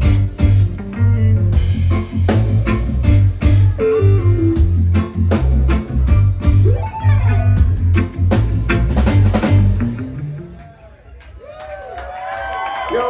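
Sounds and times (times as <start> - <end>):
drum kit: 0.0 - 10.7
electric guitar: 0.0 - 10.7
bass guitar: 0.0 - 10.9.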